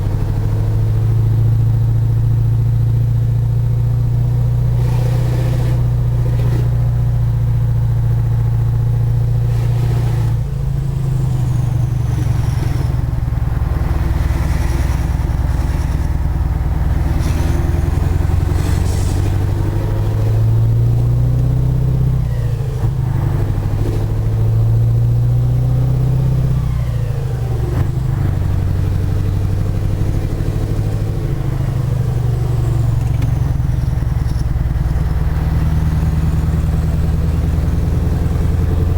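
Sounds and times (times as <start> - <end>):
diesel truck engine under load: 0.0 - 38.9.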